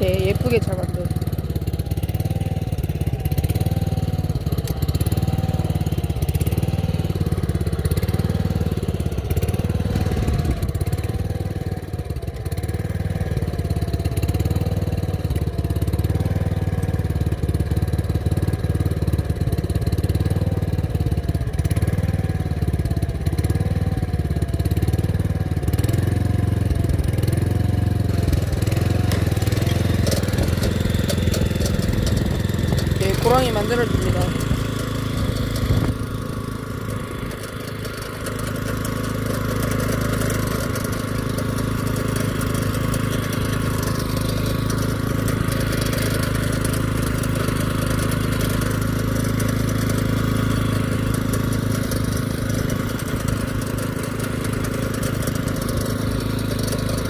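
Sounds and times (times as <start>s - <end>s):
cultivator engine running: 0.0s - 57.0s.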